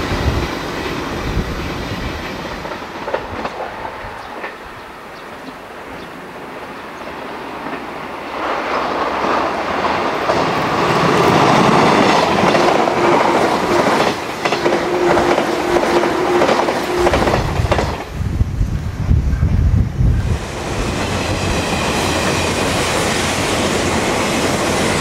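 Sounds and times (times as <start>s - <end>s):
electric train whine: 0.0s - 25.0s.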